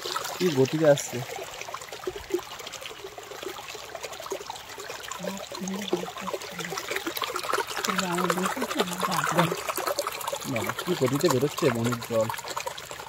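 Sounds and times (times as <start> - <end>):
rushing water trickle: 0.0 - 13.0.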